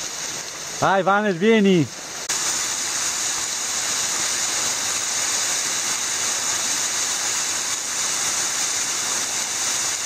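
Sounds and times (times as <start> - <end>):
waterfall splashing into pool: 0.0 - 10.0.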